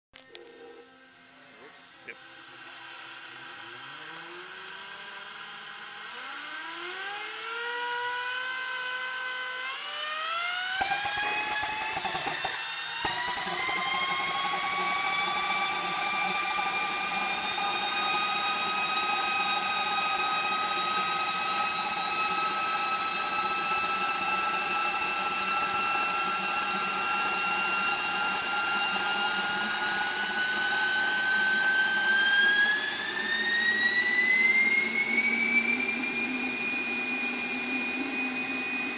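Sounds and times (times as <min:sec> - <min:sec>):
gas turbine engine whine: 0:00.2 - 0:38.9.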